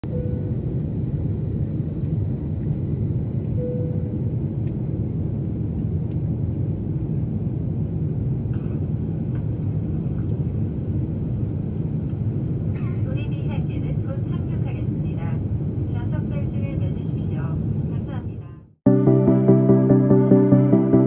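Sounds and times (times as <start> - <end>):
jet airliner cabin rumble: 0.0 - 18.6.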